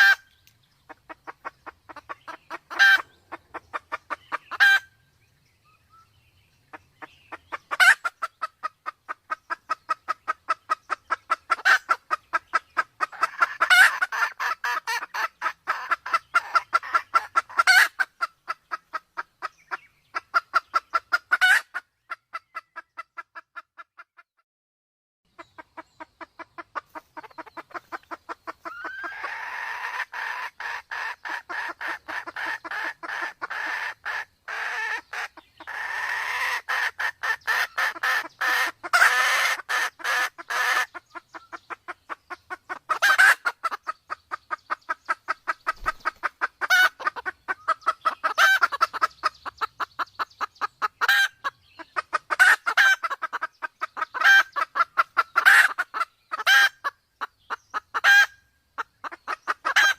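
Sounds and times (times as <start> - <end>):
sharp bird calls: 0.0 - 23.4, 25.3 - 59.9
hen clucking rapidly: 0.9 - 4.9, 6.7 - 24.3, 25.3 - 59.9.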